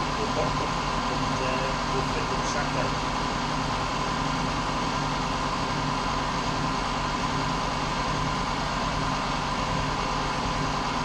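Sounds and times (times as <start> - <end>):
mechanical hum with high whine: 0.0 - 11.0.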